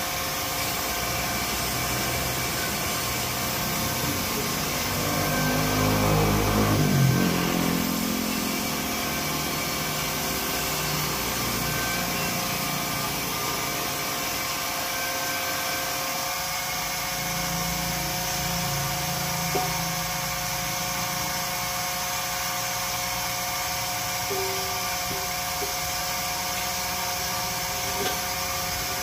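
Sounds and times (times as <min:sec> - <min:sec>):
machine whine: 0:00.0 - 0:29.0.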